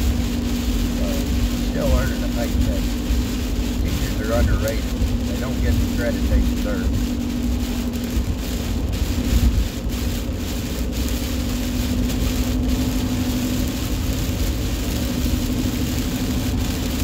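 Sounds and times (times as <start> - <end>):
hiss of wet tyres and rain: 0.0 - 17.0
truck engine rumble: 0.0 - 17.0.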